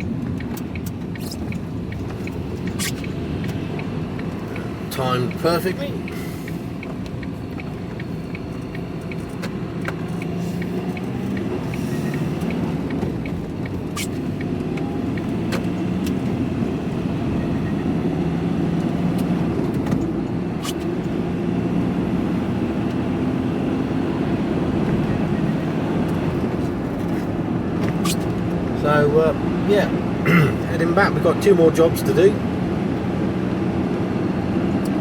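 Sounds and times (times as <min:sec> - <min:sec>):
turn indicator ticking: 0:00.0 - 0:29.2
van engine and road noise: 0:00.0 - 0:35.0.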